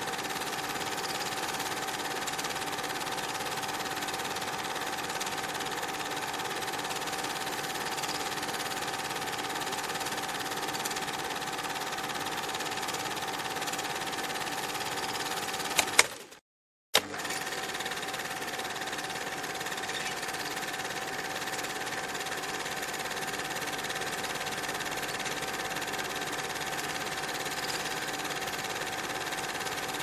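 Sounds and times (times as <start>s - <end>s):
small machine whirring and whining: 0.0s - 16.2s, 17.0s - 30.0s.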